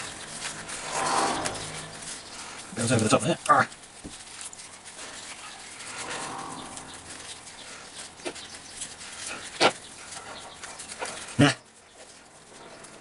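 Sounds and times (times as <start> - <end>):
ear cushion rubbing and creaking: 0.0 - 10.5.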